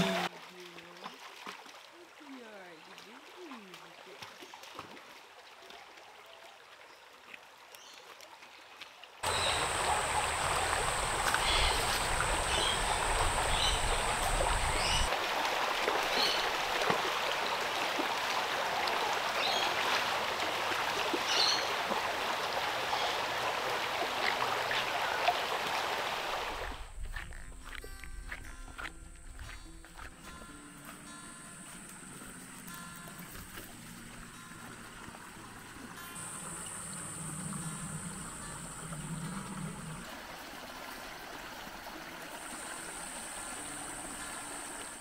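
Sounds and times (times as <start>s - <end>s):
creek splashing over stones: 0.0s - 45.0s.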